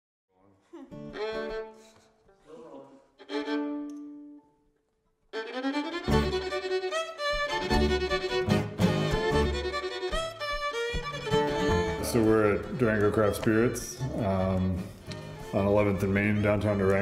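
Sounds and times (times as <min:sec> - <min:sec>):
fiddle with sliding notes: 0:01.0 - 0:02.1, 0:03.2 - 0:04.6, 0:05.3 - 0:17.0.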